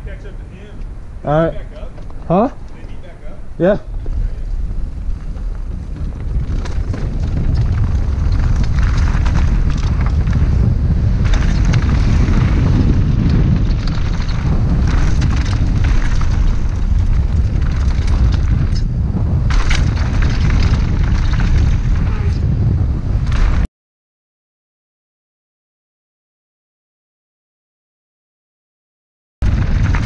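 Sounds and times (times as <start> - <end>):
bike tyres rattling over gravel: 0.0 - 23.7, 29.4 - 30.0
wind buffeting microphone: 0.0 - 23.7, 29.4 - 30.0.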